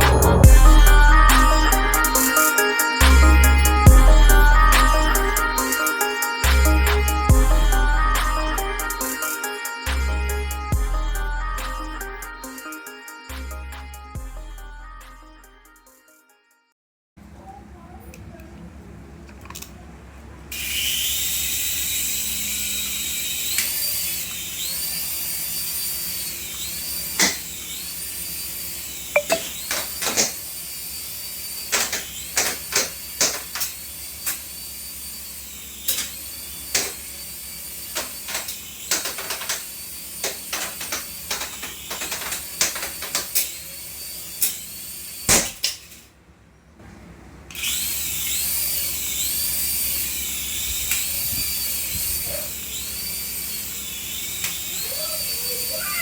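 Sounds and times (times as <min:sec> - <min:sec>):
toy electric motor whining: 0:00.0 - 0:13.7, 0:20.5 - 0:46.0, 0:47.5 - 0:56.0.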